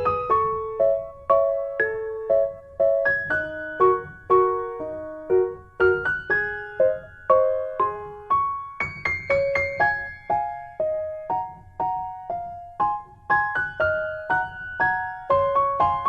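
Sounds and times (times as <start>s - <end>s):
soft piano melody: 0.0s - 16.0s.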